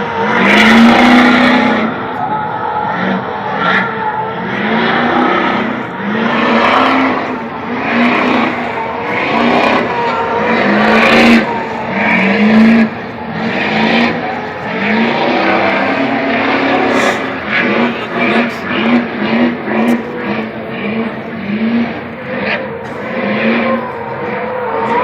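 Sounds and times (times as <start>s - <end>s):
vehicle engines revving: 0.0s - 25.0s.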